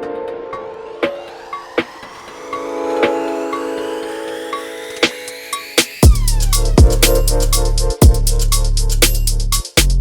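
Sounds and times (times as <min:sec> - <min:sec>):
rising synth sweep: 0:00.0 - 0:08.9
synth chords: 0:00.0 - 0:09.9.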